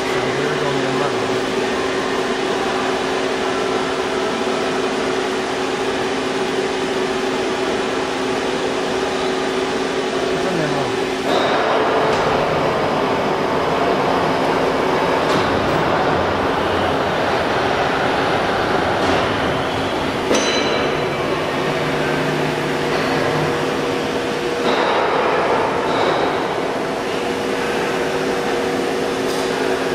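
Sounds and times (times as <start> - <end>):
drilling machine running: 0.0 - 29.9.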